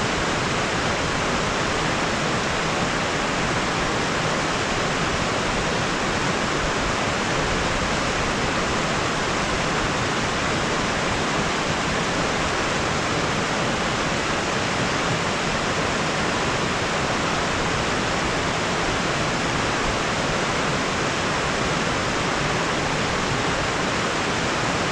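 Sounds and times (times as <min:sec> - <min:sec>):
water rushing over rocks: 0:00.0 - 0:24.9.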